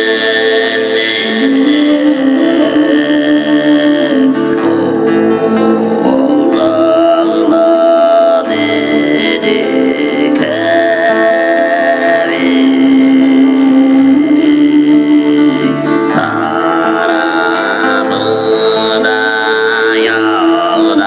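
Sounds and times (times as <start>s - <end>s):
instruments playing along: 0.0s - 21.0s
throat singing drone: 0.0s - 21.0s.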